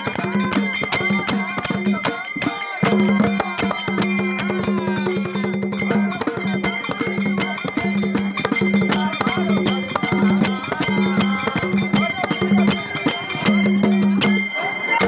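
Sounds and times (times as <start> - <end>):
small drum struck fast: 0.0 - 14.4
barrel drum: 0.0 - 14.5
hand cymbals ringing: 0.0 - 15.0.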